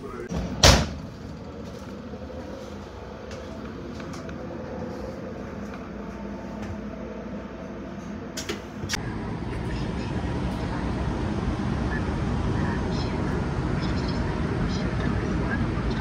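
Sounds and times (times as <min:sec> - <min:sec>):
train carriage hum: 0:00.0 - 0:16.0.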